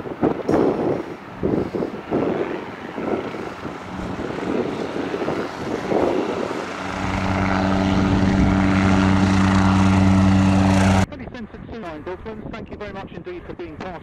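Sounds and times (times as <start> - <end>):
helicopter engine and rotors droning: 0.0 - 12.6
wind buffeting microphone: 0.0 - 14.0.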